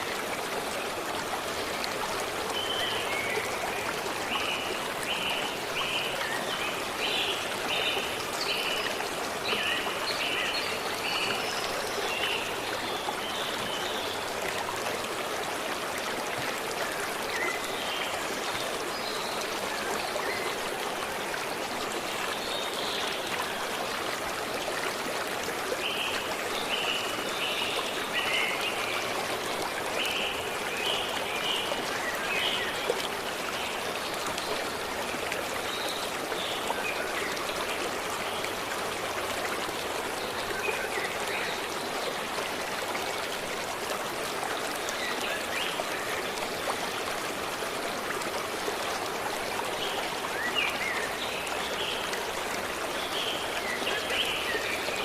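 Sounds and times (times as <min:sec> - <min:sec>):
forest stream running: 0:00.0 - 0:55.0.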